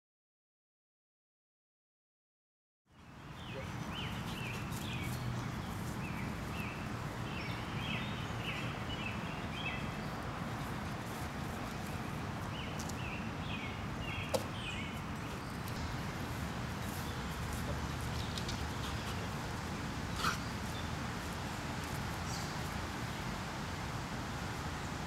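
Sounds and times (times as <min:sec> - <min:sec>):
low rumbling hiss: 0:02.9 - 0:25.0.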